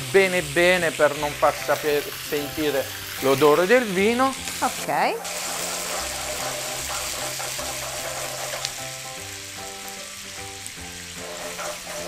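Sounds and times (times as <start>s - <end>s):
meat sizzling in a frying pan: 0.0s - 12.0s
soft background music: 0.0s - 12.0s.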